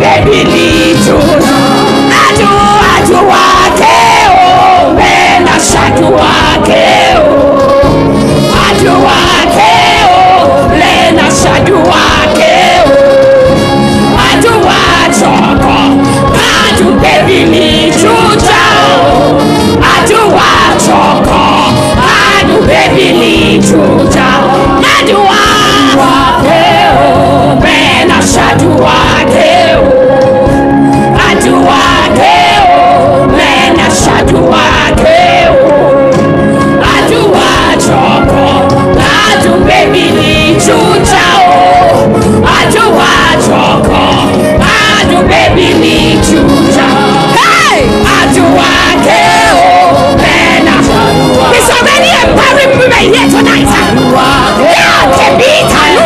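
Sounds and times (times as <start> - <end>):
congregation singing: 0.0 - 56.0
instrumental accompaniment: 0.0 - 56.0
live music: 0.0 - 56.0
woman singing into microphone: 0.0 - 56.0.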